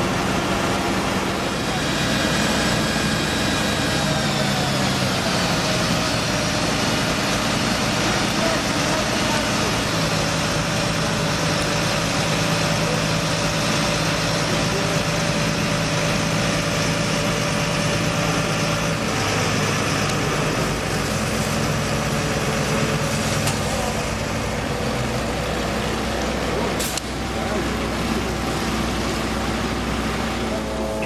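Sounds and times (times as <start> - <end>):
fire engine running: 0.0 - 31.0.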